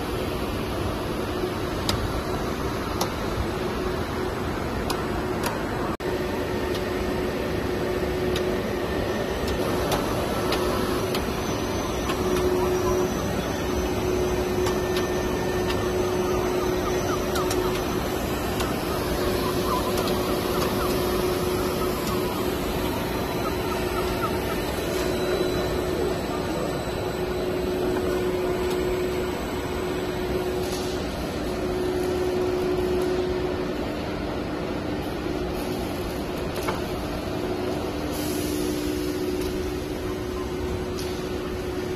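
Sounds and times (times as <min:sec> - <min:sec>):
machine drone and hum: 0:00.0 - 0:41.9.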